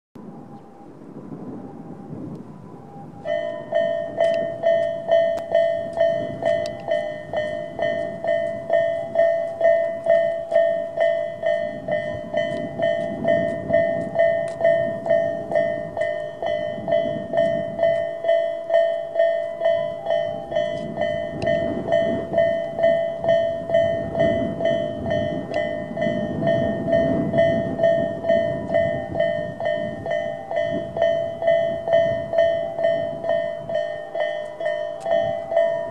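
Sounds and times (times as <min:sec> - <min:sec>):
electric train rumble: 0:00.2 - 0:35.9
level crossing warning bells: 0:00.2 - 0:35.9.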